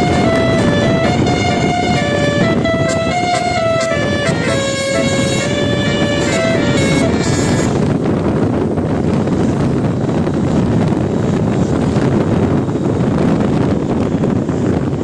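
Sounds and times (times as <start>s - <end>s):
bus driving past: 0.0s - 13.5s
wind buffeting microphone: 0.0s - 15.0s.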